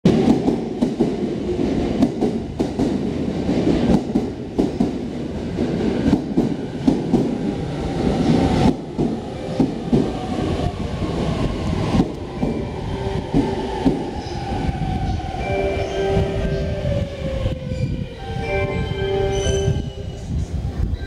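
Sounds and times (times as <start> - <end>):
train low rumble: 0.1 - 21.0.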